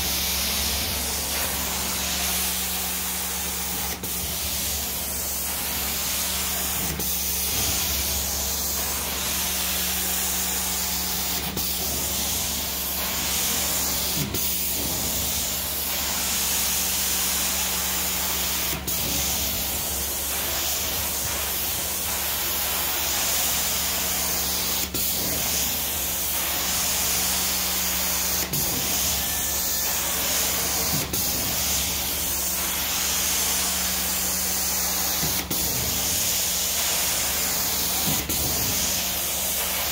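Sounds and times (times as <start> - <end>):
spray and suction hiss: 0.0 - 39.9.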